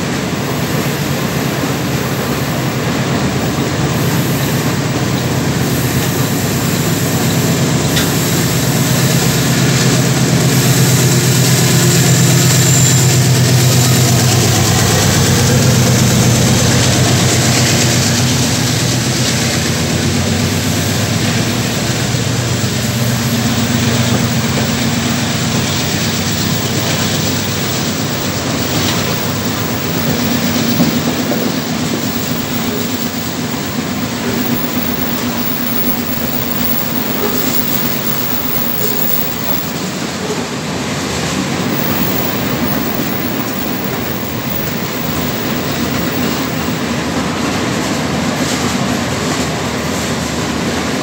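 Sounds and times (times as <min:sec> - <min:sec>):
diesel locomotive engine hum: 0:00.0 - 0:51.0
freight wagons rumbling on rails: 0:00.0 - 0:51.0.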